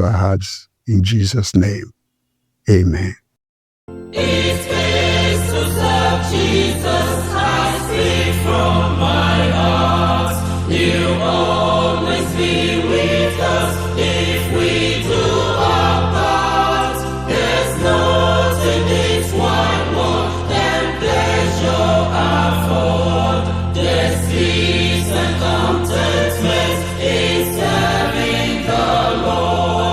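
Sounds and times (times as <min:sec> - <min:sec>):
gospel choir singing in harmony: 0:04.0 - 0:29.9.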